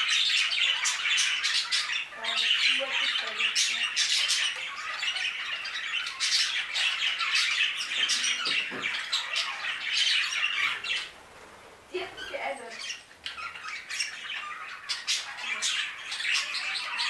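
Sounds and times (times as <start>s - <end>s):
budgerigars chattering and squawking: 0.0s - 11.2s, 11.9s - 17.0s.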